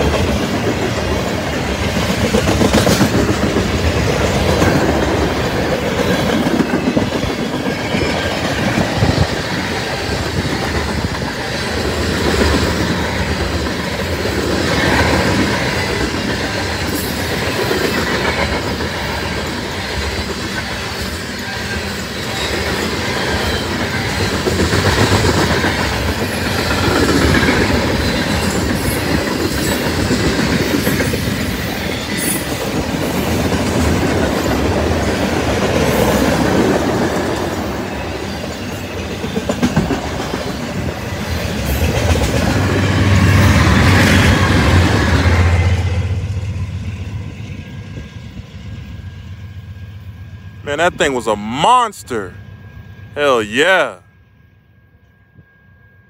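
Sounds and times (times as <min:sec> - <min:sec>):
freight train rolling rumble: 0:00.0 - 0:54.0
diesel locomotive engine drone: 0:00.0 - 0:56.0.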